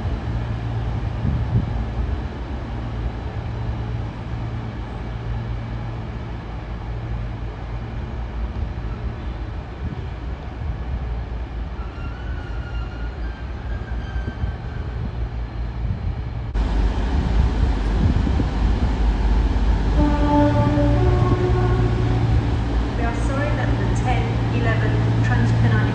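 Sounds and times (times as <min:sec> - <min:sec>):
train rumbling: 0:00.0 - 0:25.9.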